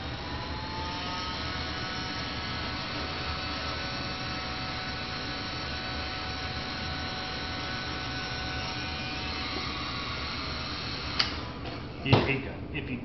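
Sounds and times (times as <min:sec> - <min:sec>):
heat gun blowing air: 0:00.0 - 0:11.9.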